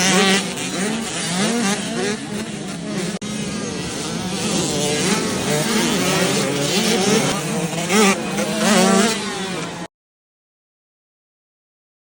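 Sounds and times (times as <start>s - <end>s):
dirt bike engines revving: 0.0s - 9.9s.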